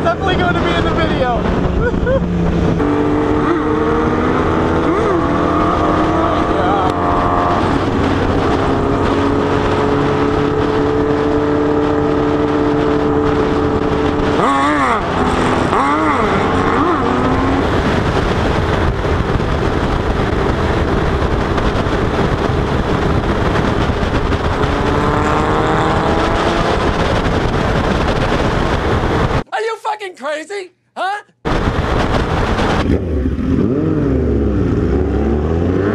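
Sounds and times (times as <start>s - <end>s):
motorcycle engine revving: 0.0s - 29.4s, 31.5s - 35.9s
wind rush: 0.0s - 29.5s, 31.4s - 35.9s.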